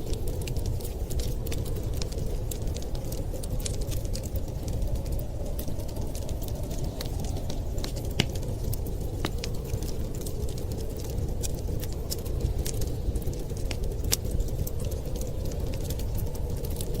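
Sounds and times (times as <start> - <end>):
wind rushing: 0.0 - 17.0
wood fire crackling: 0.0 - 17.0.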